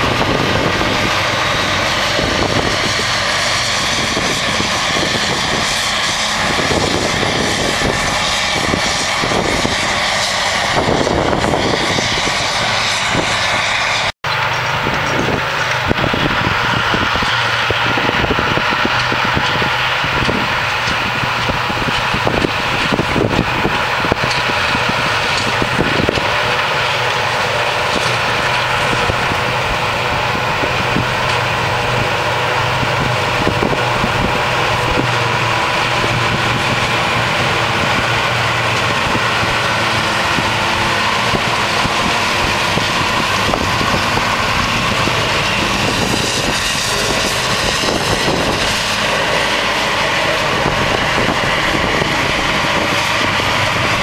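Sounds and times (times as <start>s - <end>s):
forage harvester droning and whining: 0.0s - 54.0s.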